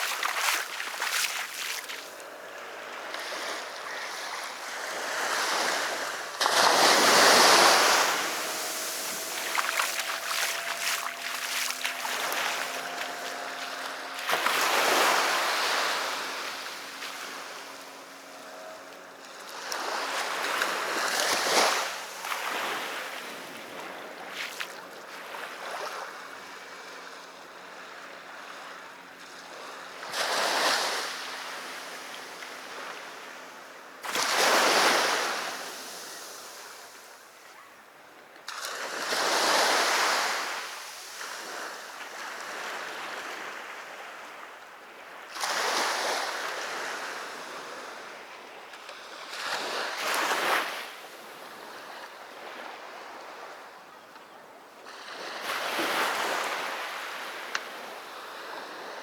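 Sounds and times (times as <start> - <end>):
waves breaking on beach: 0.0 - 37.4, 38.5 - 59.0.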